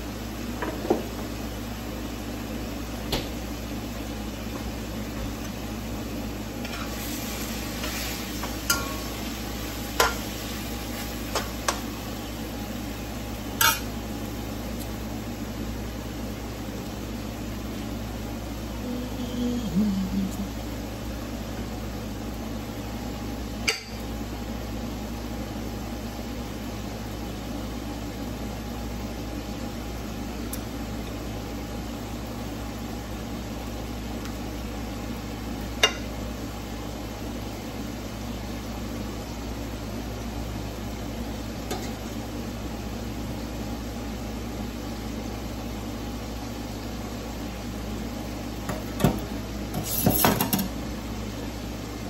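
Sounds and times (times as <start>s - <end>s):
steady background hum: 0.0s - 52.0s.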